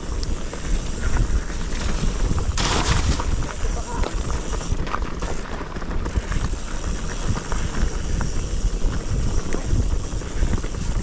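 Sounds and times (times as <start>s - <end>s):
bike rattling clicks and knocks: 0.0s - 11.0s
steady rumble of bike: 0.0s - 11.0s
wind buffeting microphone: 0.0s - 11.0s.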